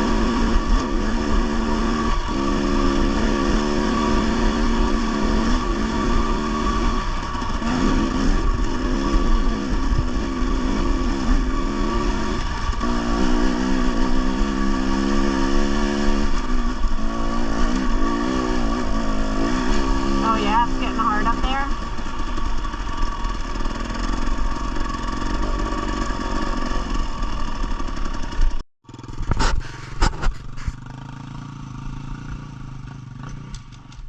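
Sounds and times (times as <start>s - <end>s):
dirt bike engine revving: 0.0s - 33.7s.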